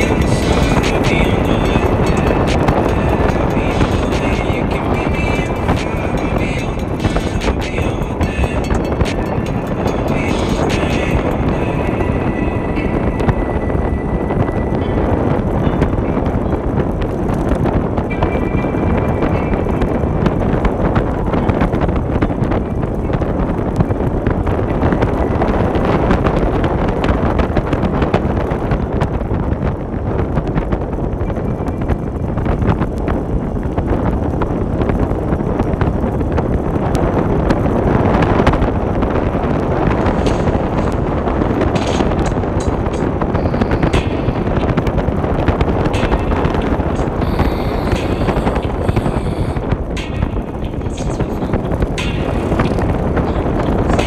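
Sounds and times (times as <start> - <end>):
motorcycle running: 0.0 - 54.0
road noise: 0.0 - 54.0
wind buffeting microphone: 0.0 - 54.0.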